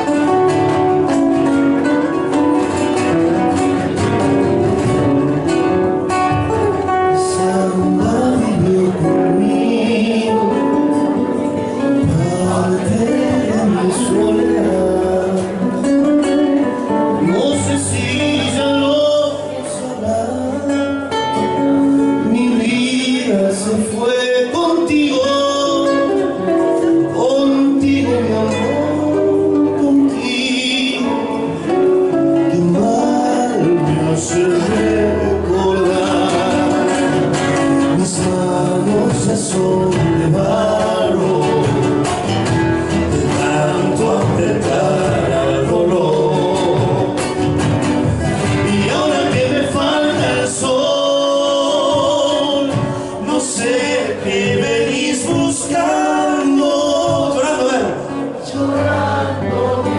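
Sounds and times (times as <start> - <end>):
guitar accompaniment: 0.0 - 59.9
man singing: 0.0 - 59.9.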